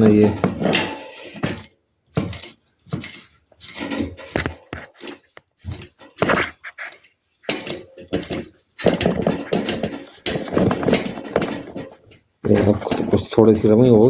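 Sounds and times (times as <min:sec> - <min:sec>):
fan motor knocks and scraping: 0:00.0 - 0:14.0.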